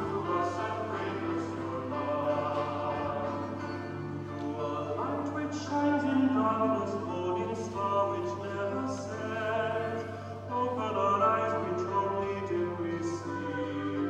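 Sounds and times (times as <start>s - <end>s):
hymn singing with accompaniment: 0.0s - 14.0s.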